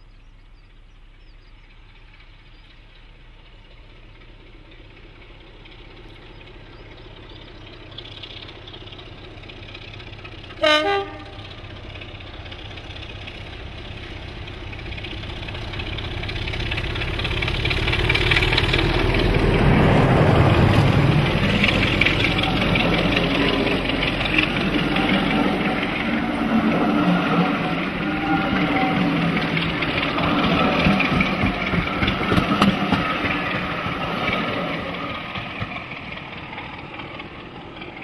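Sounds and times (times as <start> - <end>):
diesel locomotive engine: 0.0 - 38.0
train coaches rumbling on rails: 0.0 - 38.0.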